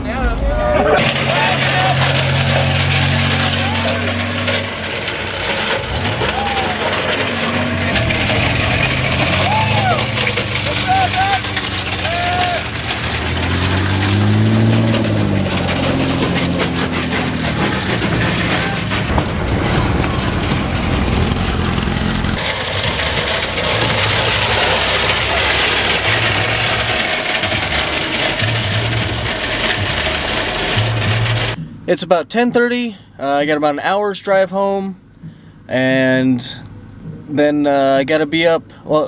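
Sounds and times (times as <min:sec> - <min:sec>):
vehicle engine revving: 0:00.0 - 0:31.6.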